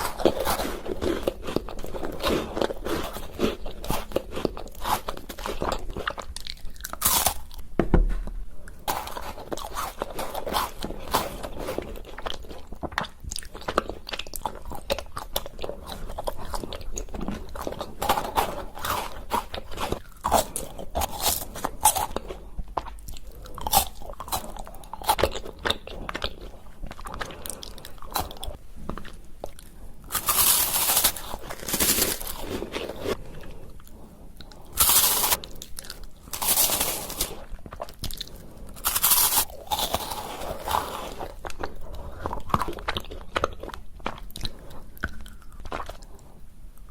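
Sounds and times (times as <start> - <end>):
chewing and crunching candy: 0.0 - 46.9.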